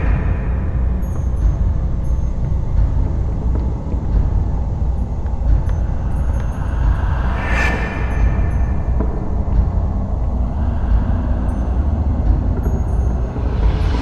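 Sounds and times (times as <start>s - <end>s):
dark ambient low rumble: 0.0s - 14.0s.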